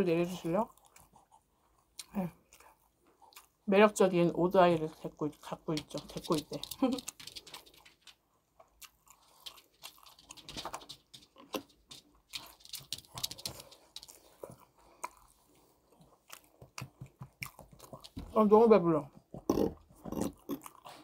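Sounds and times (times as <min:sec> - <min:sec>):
chewing and biting food: 0:00.6 - 0:03.6, 0:04.8 - 0:18.3, 0:19.2 - 0:21.0.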